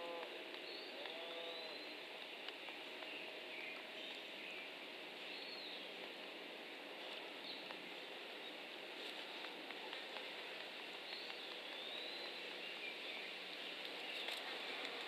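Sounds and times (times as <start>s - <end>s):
wind in leaves: 0.0s - 15.0s.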